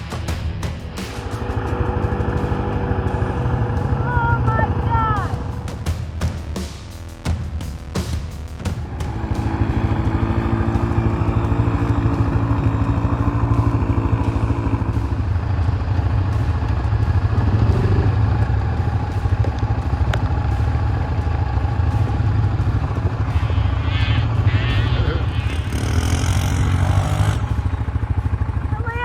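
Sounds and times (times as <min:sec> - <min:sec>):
higher engine tone: 0:00.0 - 0:06.0, 0:08.7 - 0:29.0
quad engine running: 0:00.0 - 0:06.6, 0:08.6 - 0:29.0.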